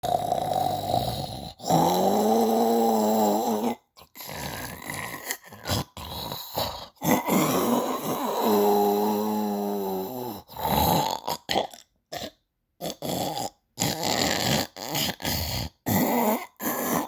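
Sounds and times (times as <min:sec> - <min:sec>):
pitched droning snore: 0:00.0 - 0:17.0.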